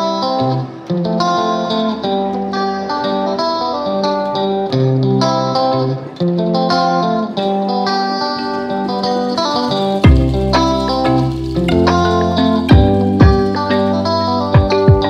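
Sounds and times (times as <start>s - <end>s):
plucked string instrumental music: 0.0s - 15.0s.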